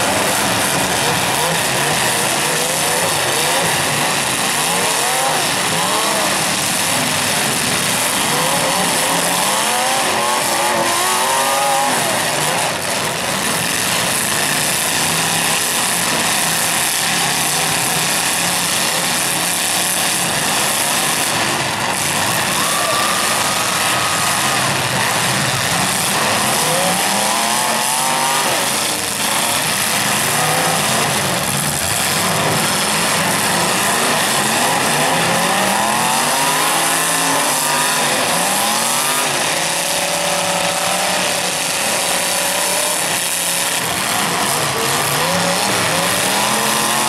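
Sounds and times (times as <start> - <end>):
car engines revving: 0.0 - 47.0.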